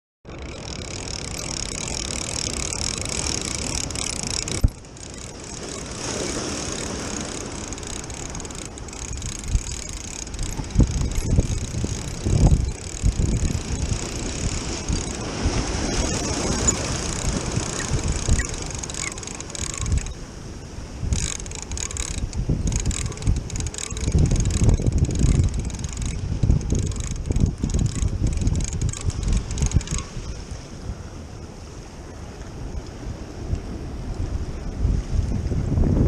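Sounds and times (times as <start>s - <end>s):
fishing reel whirring: 0.3s - 30.8s
surf washing on rocks: 0.3s - 36.0s
wind buffeting microphone: 0.3s - 36.0s.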